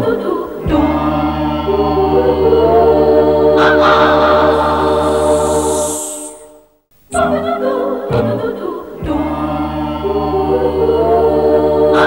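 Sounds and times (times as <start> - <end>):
chorus singing long held notes: 0.0 - 12.0.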